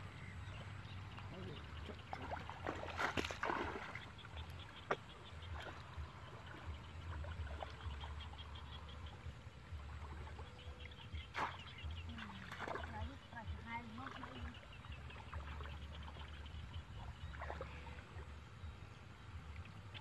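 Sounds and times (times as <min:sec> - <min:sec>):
water splashing and sloshing: 0:00.2 - 0:20.0.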